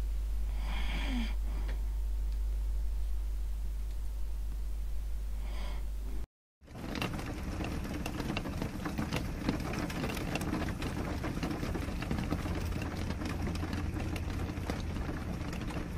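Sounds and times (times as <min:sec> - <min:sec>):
low machine hum: 0:00.0 - 0:15.9.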